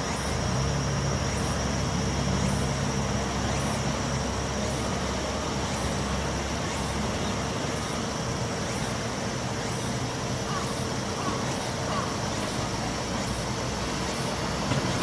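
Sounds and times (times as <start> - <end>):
locomotive equipment humming: 0.0 - 15.0.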